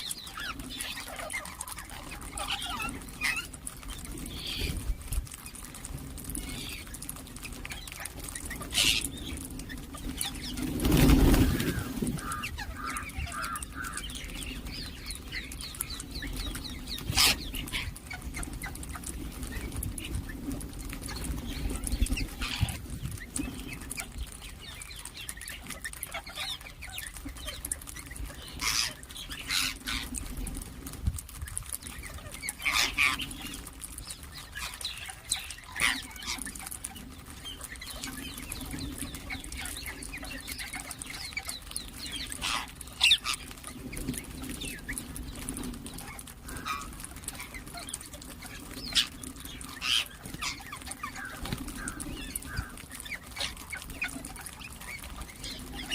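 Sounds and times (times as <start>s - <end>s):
parakeets calling and chirping: 0.0s - 55.9s.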